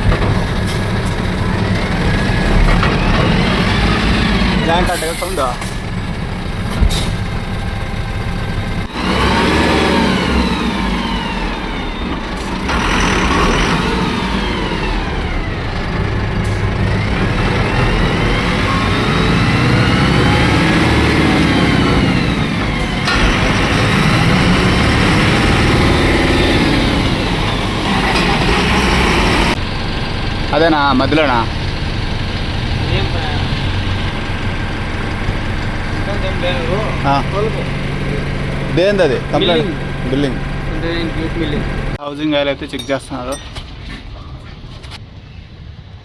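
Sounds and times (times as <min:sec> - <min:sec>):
diesel truck engine revving: 0:00.0 - 0:42.6.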